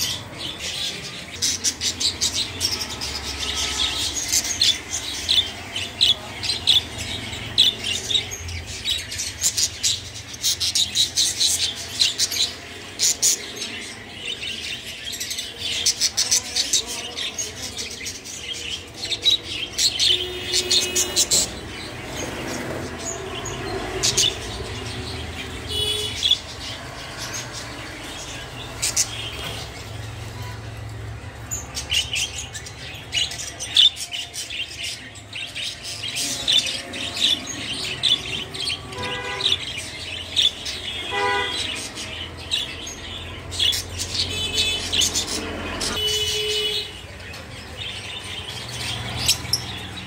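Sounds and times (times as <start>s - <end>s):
budgerigars chirping: 0.0s - 30.6s, 31.2s - 50.0s.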